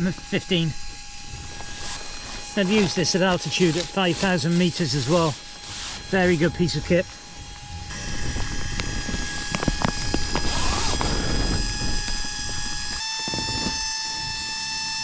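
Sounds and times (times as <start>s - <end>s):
electric air pump whining: 0.0s - 15.0s.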